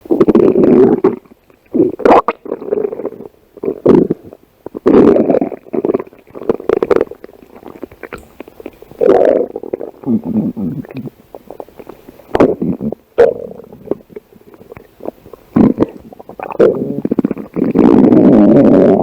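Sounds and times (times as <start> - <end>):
stomach growling: 0.1 - 19.0.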